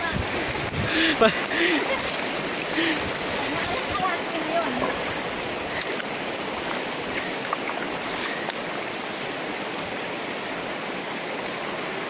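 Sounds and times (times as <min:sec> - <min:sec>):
river running over stones: 0:00.0 - 0:12.0.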